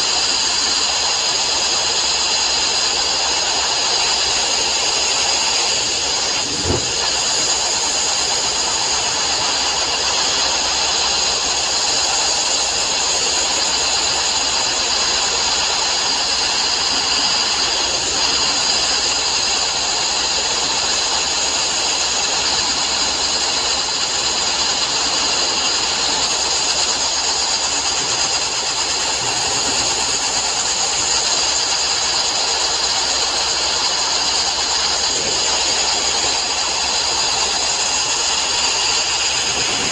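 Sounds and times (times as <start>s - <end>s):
sandblasting nozzle hissing: 0.0s - 39.9s.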